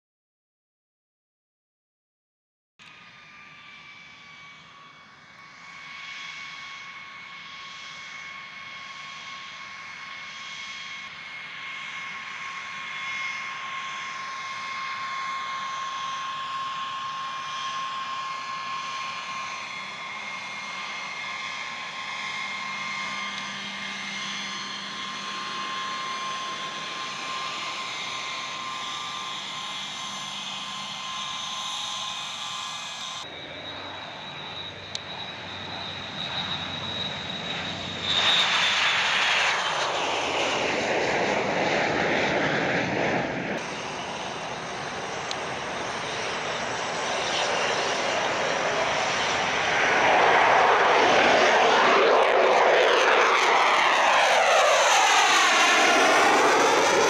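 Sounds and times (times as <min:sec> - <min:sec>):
jet engine turbine whine: 0:02.8 - 0:57.0.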